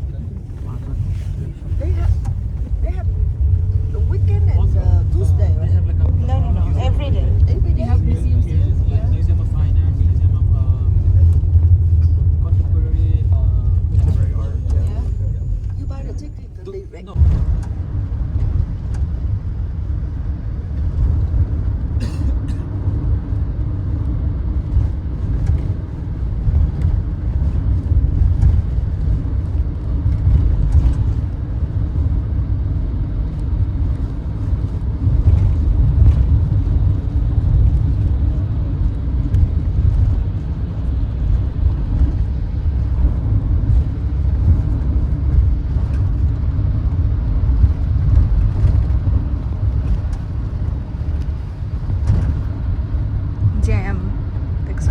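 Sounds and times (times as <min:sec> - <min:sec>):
vehicle engine and tyre noise: 0:00.0 - 0:54.9.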